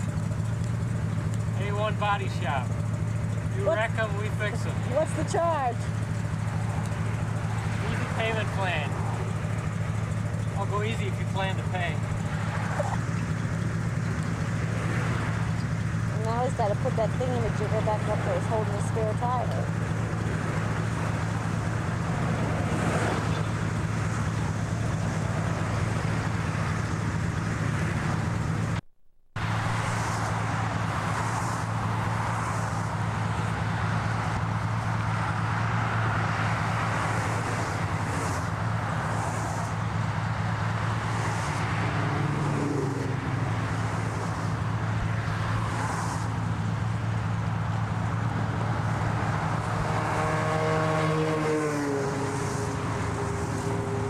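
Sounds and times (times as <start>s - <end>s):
highway traffic roar: 0.0s - 54.0s.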